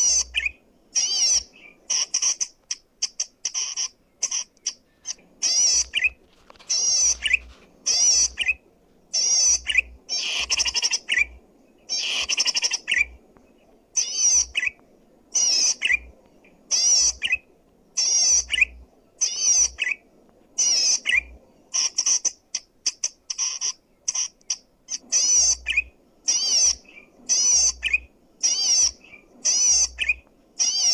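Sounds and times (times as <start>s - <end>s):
bird chattering song: 0.0s - 30.9s.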